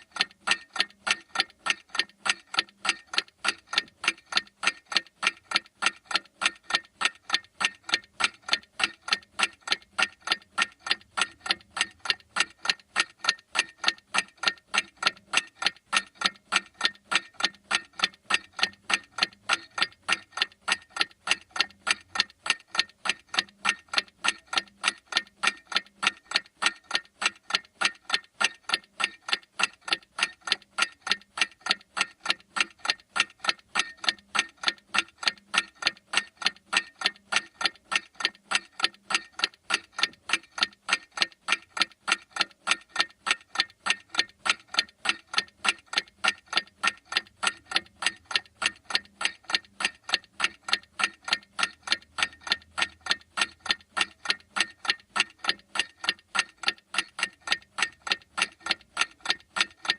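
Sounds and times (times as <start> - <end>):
clock mechanism ticking: 0.0 - 59.9.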